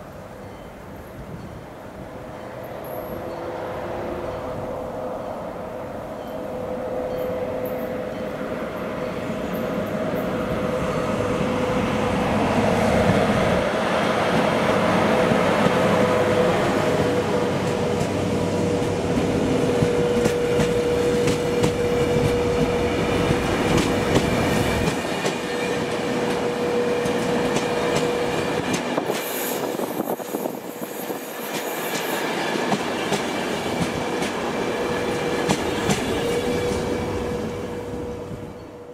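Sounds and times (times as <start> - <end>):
electric locomotive passing: 0.0 - 38.9.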